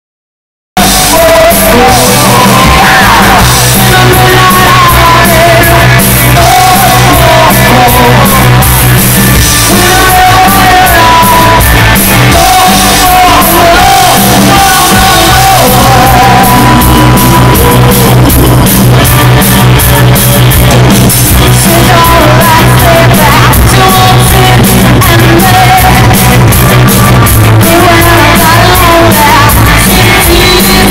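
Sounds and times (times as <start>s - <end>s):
woman singing lead: 0.8s - 8.7s, 9.5s - 19.1s, 21.4s - 30.9s
live rock band playing: 0.8s - 30.9s.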